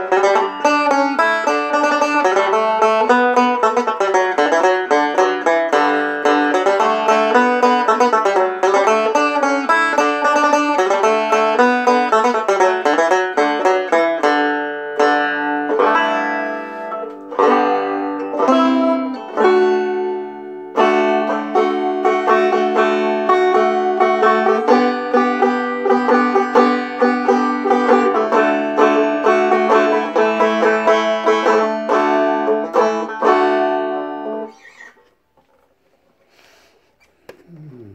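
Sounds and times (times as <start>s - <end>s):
resonator banjo picking: 0.0s - 36.4s.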